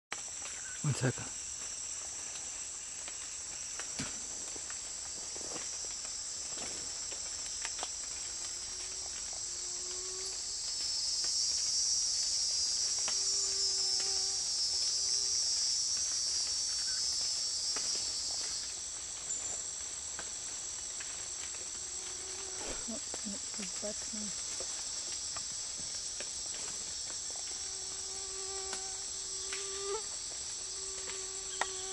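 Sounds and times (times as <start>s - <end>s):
forest insect chorus drone: 0.1s - 31.9s.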